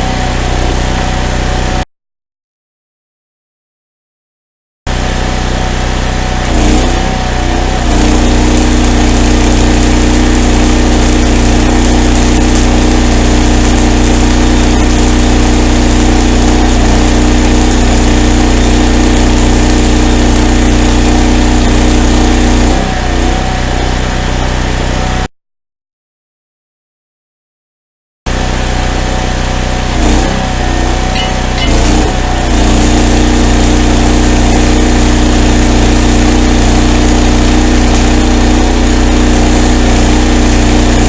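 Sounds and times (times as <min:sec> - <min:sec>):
engine-drive welder running: 0:00.0 - 0:01.8, 0:04.9 - 0:25.3, 0:28.3 - 0:41.0.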